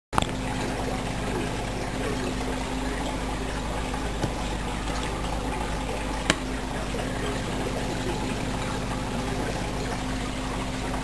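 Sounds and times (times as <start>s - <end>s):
low pump hum: 0.2s - 11.0s
trickle of running water: 0.2s - 11.0s.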